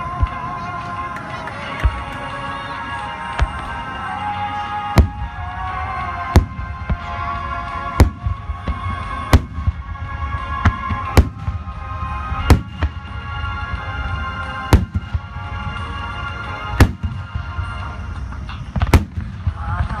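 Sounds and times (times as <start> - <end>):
constant low rumble: 0.0 - 20.0
music: 0.0 - 20.0.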